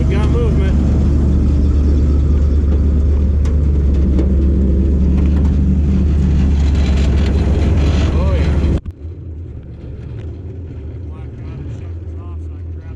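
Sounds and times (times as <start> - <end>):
truck engine idling: 0.0 - 12.9.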